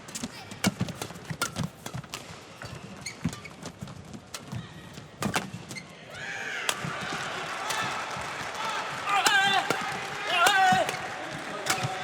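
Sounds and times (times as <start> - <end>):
rackets striking shuttlecock: 0.0 - 5.9, 6.6 - 12.0.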